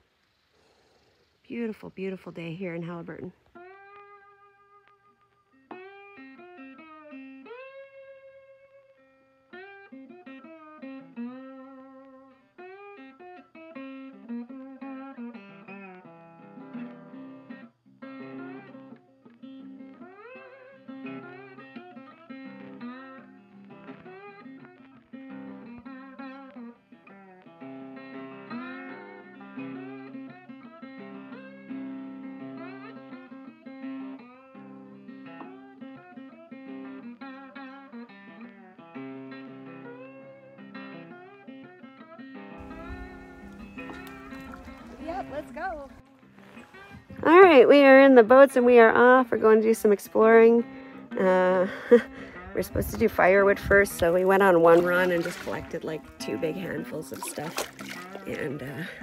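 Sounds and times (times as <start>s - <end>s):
guitar melody with slides: 1.5s - 59.0s.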